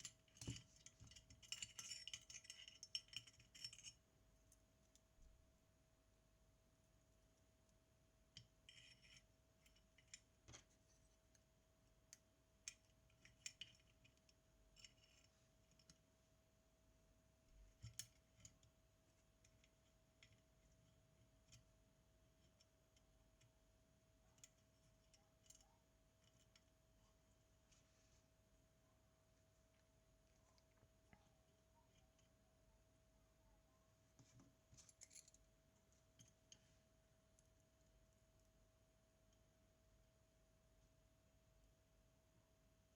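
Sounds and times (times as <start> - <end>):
faint steady tone: 0.0 - 42.9.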